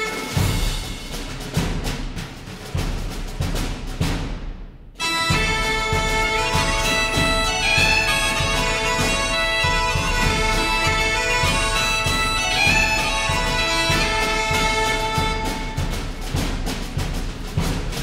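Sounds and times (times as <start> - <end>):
low regular beat: 0.0 - 18.0.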